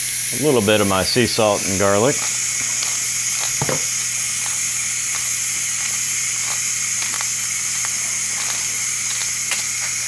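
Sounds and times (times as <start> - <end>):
steam hissing from valve: 0.0 - 10.0.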